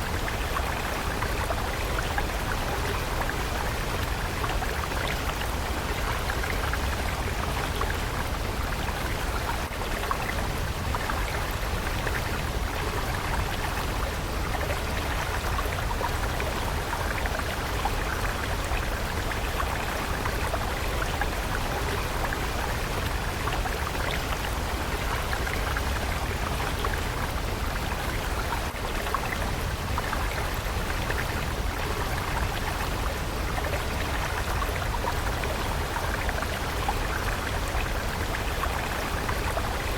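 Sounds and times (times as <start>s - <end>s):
water stream rushing: 0.0s - 39.9s.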